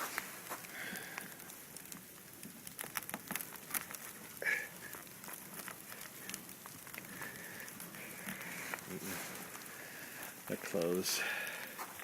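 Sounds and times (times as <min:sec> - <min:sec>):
ice crackling and clicking: 0:00.0 - 0:12.0.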